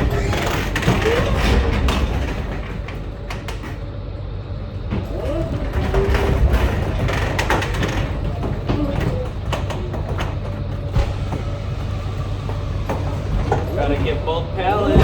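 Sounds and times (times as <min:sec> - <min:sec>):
pallets clanking and rattling: 0:00.0 - 0:15.0.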